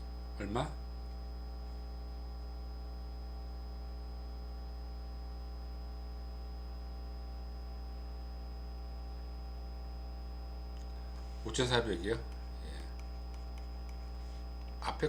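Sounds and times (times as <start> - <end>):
electrical mains hum: 0.0 - 15.0
faint high whine: 0.0 - 15.0.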